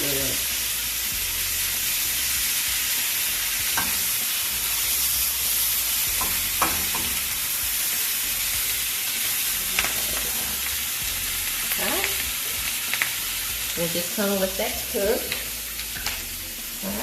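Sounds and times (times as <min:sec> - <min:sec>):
sauce sizzling in a pan: 0:00.0 - 0:17.0.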